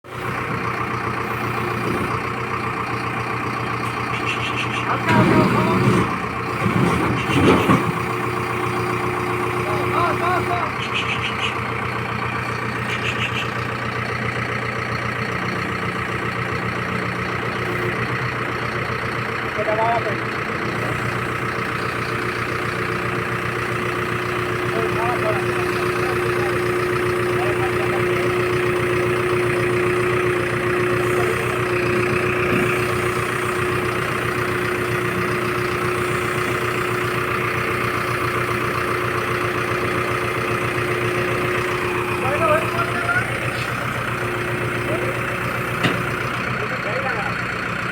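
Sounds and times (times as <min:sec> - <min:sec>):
diesel engine running at low revs: 0:00.0 - 0:47.9.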